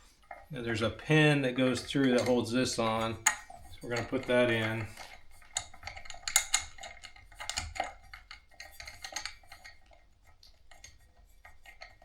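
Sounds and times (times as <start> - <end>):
small metal parts clicking: 0.2 - 10.0.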